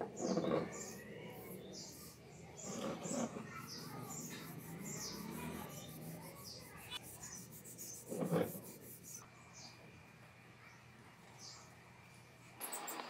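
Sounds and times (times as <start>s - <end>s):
small birds chirping: 0.0s - 9.9s, 10.6s - 11.8s, 12.6s - 13.0s.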